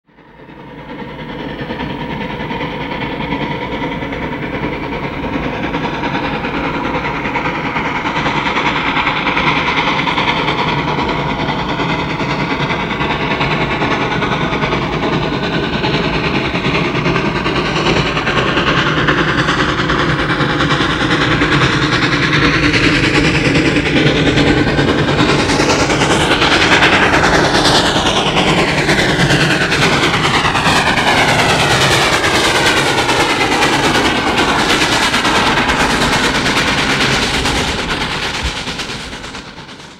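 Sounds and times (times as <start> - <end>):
steam locomotive exhaust: 0.1 - 39.9.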